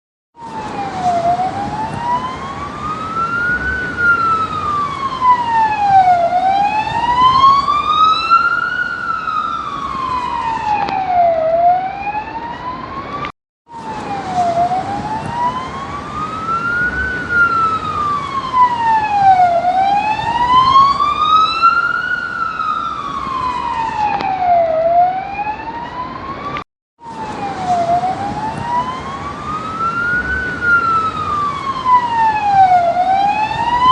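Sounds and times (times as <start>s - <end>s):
police siren wailing: 0.4s - 33.9s.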